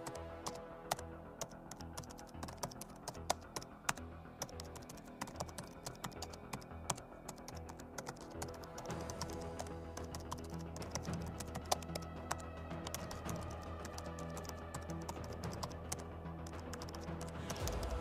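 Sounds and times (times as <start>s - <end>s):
keyboard typing: 0.0s - 18.0s.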